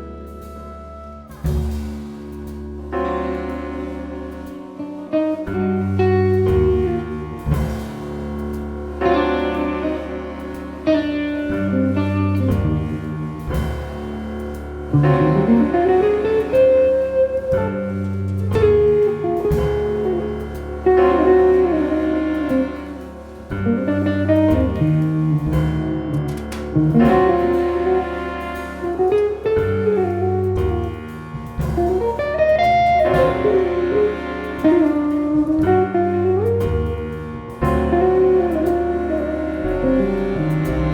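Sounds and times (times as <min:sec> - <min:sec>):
jazz ensemble playing a ballad: 0:00.0 - 0:40.9.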